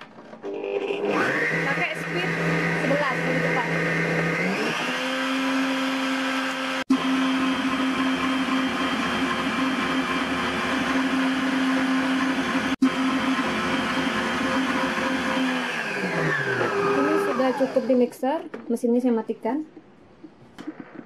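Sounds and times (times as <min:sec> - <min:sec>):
stand mixer motor whine: 0:00.2 - 0:18.1.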